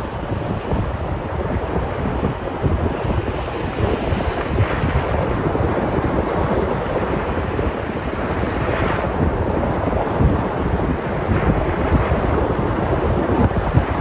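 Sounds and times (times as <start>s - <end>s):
sea surf washing onto shore: 0.0s - 14.0s
wind buffeting microphone: 0.0s - 14.0s.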